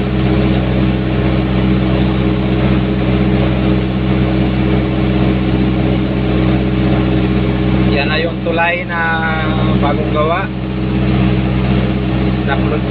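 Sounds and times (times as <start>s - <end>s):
diesel engine running steadily: 0.0s - 12.9s.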